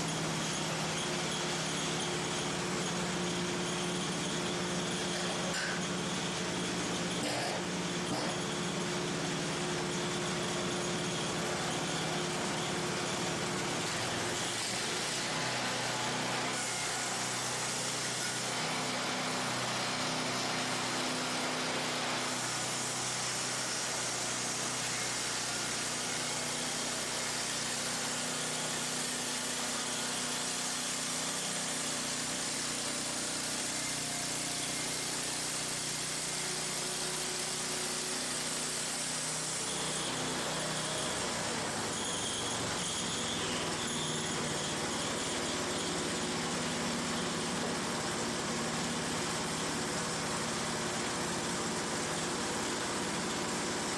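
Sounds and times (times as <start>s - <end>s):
band sawmill cutting wood: 0.0s - 53.9s.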